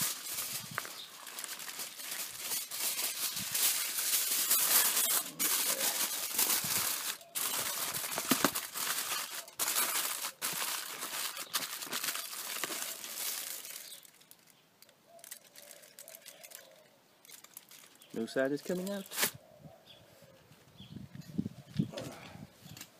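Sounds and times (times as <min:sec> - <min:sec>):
aluminium foil crinkling: 0:00.0 - 0:19.4.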